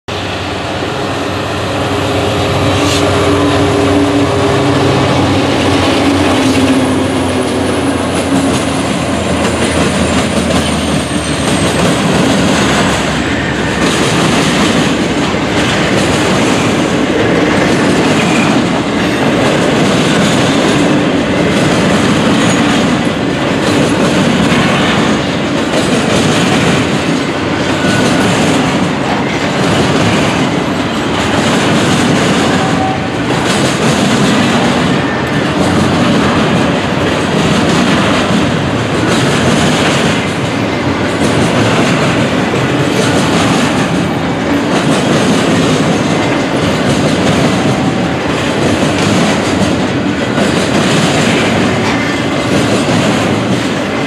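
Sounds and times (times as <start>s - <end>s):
diesel locomotive engines droning: 0.0s - 54.0s
freight cars rumbling by: 0.1s - 54.0s
train wheels clattering on rail joints: 1.4s - 54.0s.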